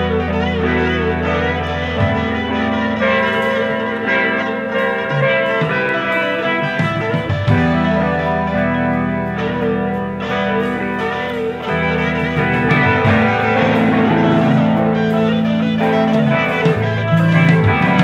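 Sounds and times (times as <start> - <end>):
guitar: 0.0 - 18.0
live band playing: 0.0 - 18.0.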